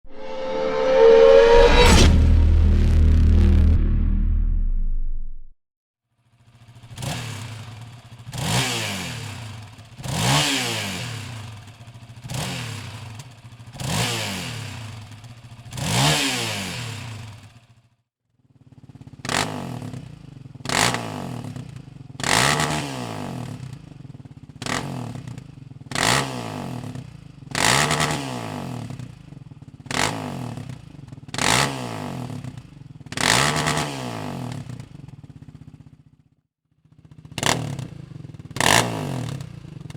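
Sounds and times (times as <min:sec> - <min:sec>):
engine idling and revving: 0:00.0 - 0:05.5, 0:06.3 - 0:17.8, 0:18.7 - 0:36.2, 0:36.9 - 0:39.9.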